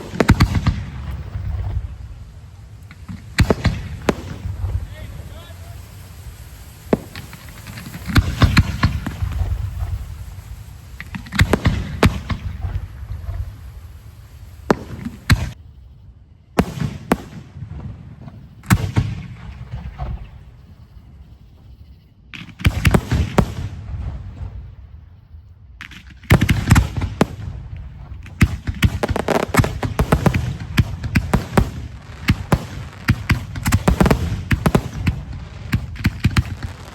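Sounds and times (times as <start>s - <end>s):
fireworks bangs with rumbling echo: 0.0s - 15.8s, 16.5s - 21.3s, 22.3s - 36.9s.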